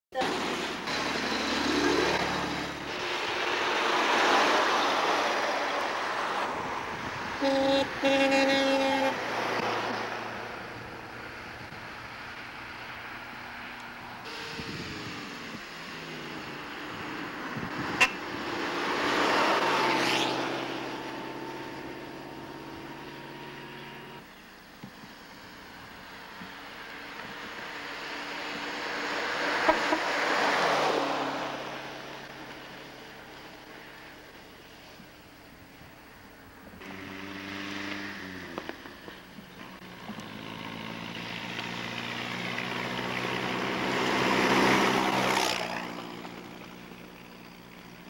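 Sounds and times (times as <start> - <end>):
old car passing by: 0.2 - 35.8, 36.8 - 48.0
car engine drone: 0.2 - 48.0.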